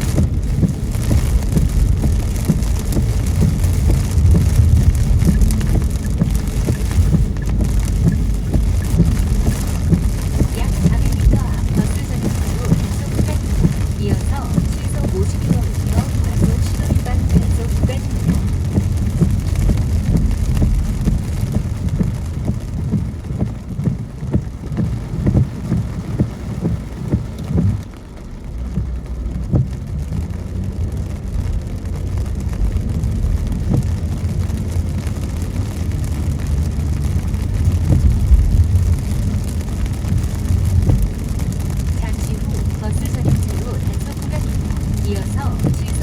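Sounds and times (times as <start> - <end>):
raindrops tapping on car: 0.0 - 46.0
road and tyre rumble: 0.0 - 46.0.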